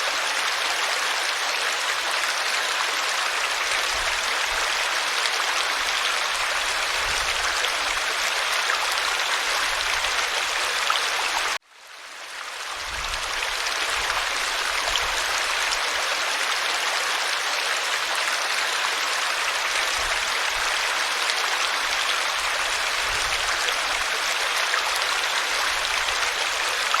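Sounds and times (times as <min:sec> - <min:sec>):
stream babbling over rocks: 0:00.0 - 0:11.6, 0:12.2 - 0:27.0.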